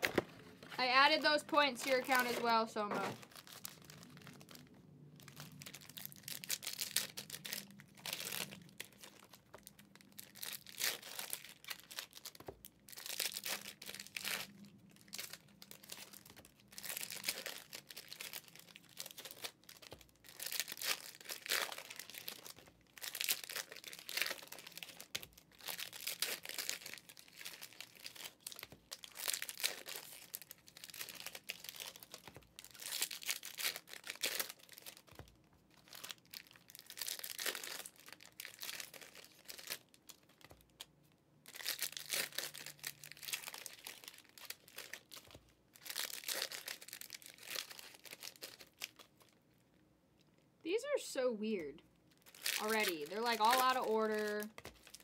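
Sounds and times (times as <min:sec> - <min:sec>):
foil packs crinkling: 0:00.0 - 0:40.9, 0:41.5 - 0:49.4, 0:52.1 - 0:55.0.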